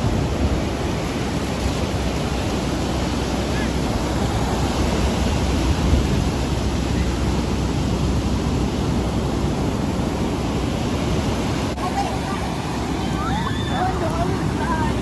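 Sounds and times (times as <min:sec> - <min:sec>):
ocean surf washing: 0:00.0 - 0:15.0
wind rumbling on microphone: 0:00.0 - 0:15.0.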